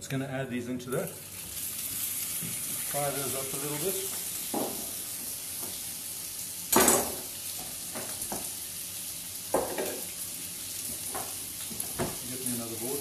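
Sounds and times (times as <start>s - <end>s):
chicken sizzling in hot oil: 1.0s - 13.0s.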